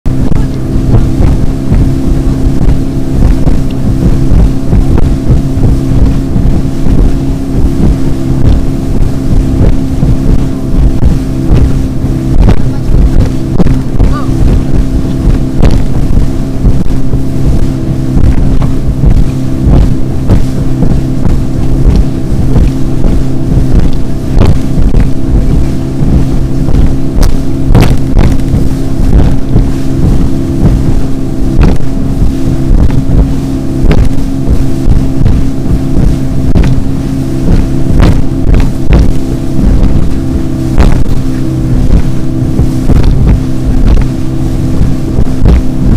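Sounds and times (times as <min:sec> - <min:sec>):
motorboat engine drone: 0:00.0 - 0:45.9
waves slapping hull: 0:00.0 - 0:45.9
wind on microphone: 0:00.0 - 0:45.9.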